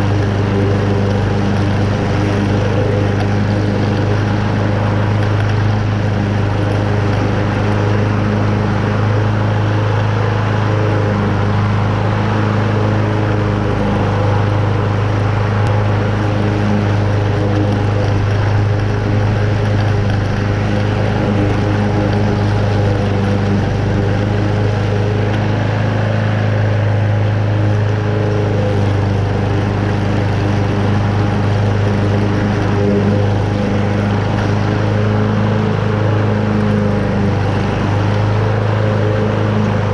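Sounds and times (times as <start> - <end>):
lawn mower cutting grass: 0.0 - 39.9.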